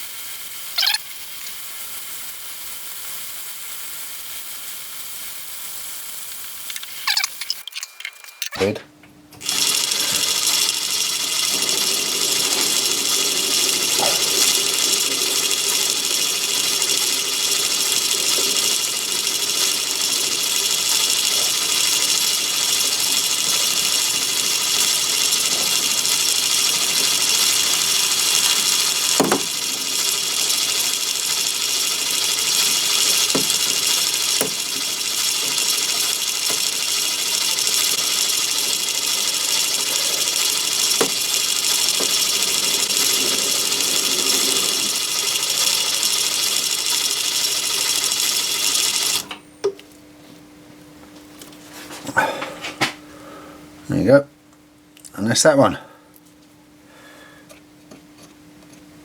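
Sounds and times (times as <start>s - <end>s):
lathe running with whine: 0.0s - 7.4s, 9.4s - 49.8s.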